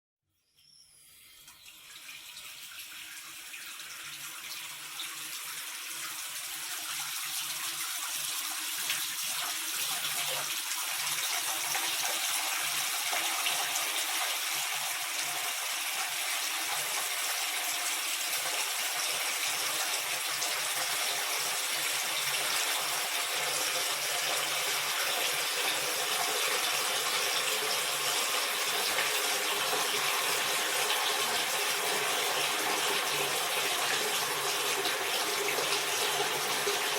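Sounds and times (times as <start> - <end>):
tap water filling bathtub: 1.4 - 36.9.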